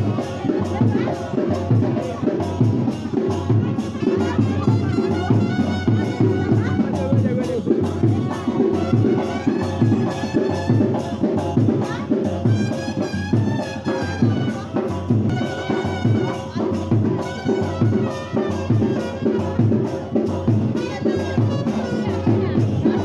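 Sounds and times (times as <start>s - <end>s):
brass band melody: 0.0s - 23.0s
steady drum beat: 0.0s - 23.0s.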